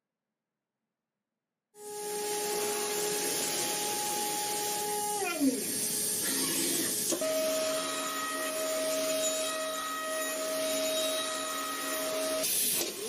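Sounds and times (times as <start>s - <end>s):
machine motor whining: 1.8s - 13.0s.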